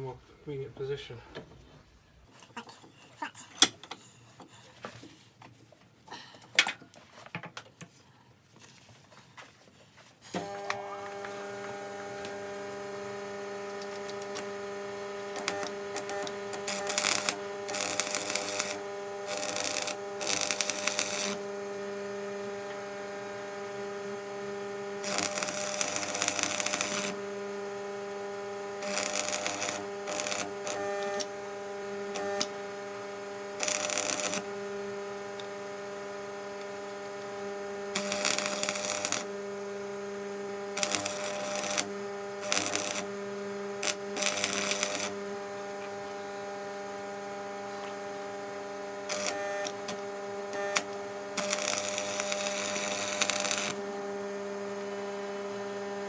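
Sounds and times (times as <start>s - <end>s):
electric welder humming: 10.3s - 56.0s
welding arc crackle: 10.3s - 56.0s.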